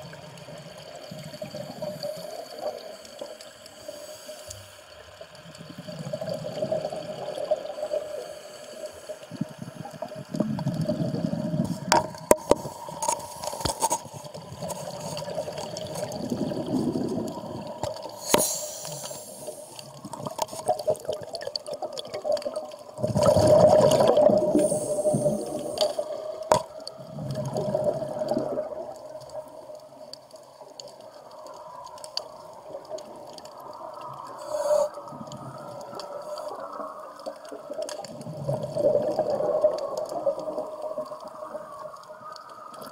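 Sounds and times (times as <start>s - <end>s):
underwater bubbling rush: 0.0s - 42.9s.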